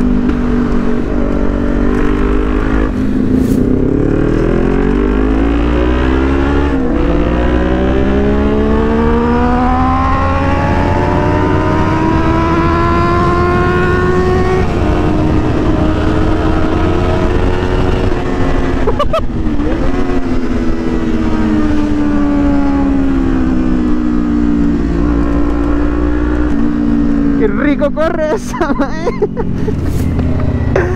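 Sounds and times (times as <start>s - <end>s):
wind rumble on microphone: 0.0s - 27.5s
motorcycle engine accelerating: 0.0s - 30.9s.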